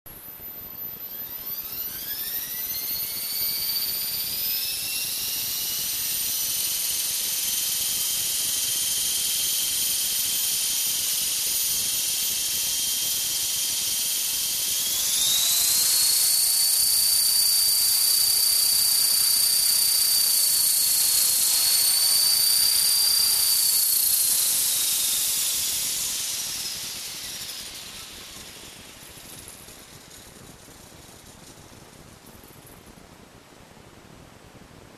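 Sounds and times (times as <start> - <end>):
helicopter motor and rotor whine: 0.2 - 33.0.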